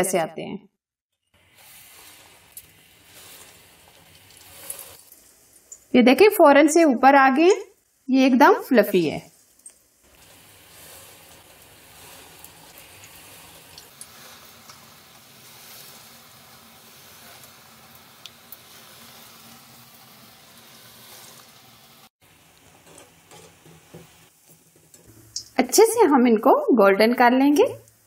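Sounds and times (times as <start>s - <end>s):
fritters sizzling in hot oil: 1.2s - 26.0s, 27.1s - 28.0s.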